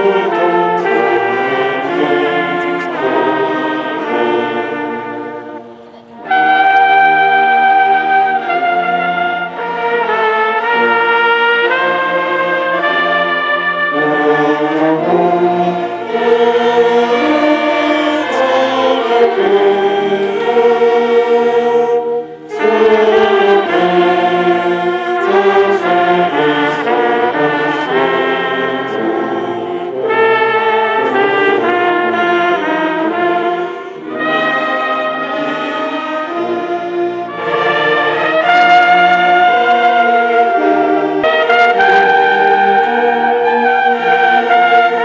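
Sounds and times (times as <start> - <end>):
brass band playing sustained chords: 0.0 - 45.0.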